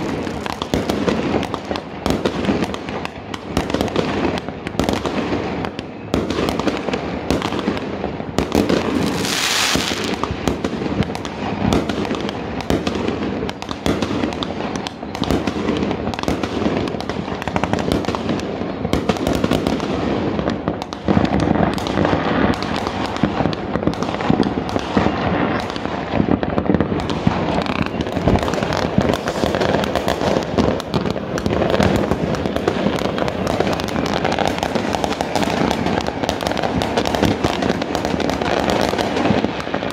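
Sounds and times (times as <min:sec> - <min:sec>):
fireworks bangs and crackles: 0:00.0 - 0:39.9
firework hiss: 0:06.4 - 0:39.9.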